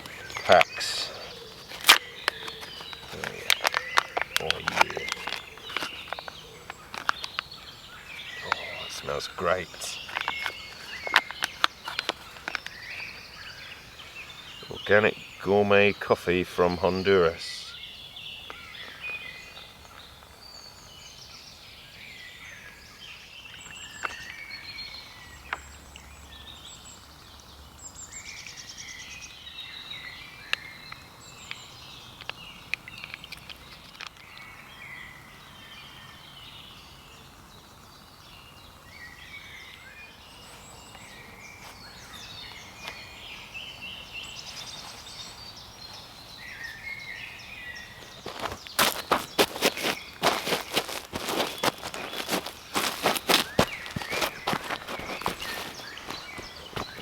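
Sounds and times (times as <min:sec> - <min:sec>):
songbirds singing and calling: 0:00.0 - 0:57.0.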